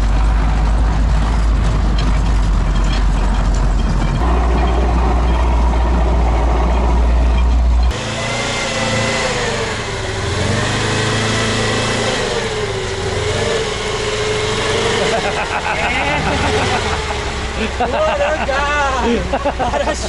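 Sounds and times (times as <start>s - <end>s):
off-roader engine revving: 0.0s - 20.0s
tracked vehicle rumble: 0.0s - 20.0s.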